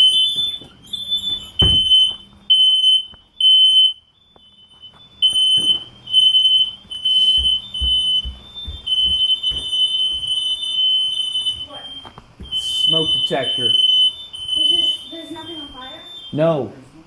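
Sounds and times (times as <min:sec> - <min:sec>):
smoke detectors beeping: 0:00.0 - 0:17.0.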